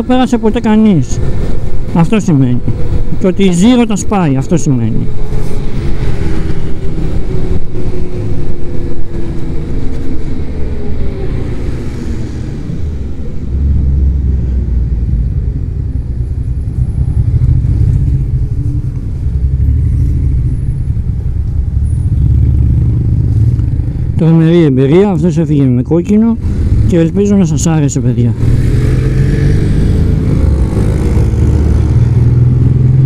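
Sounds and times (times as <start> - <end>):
road noise: 0.0 - 33.0.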